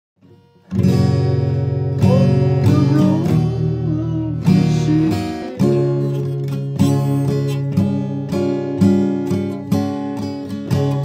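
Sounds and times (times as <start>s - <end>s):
acoustic guitar strumming: 0.2s - 11.0s.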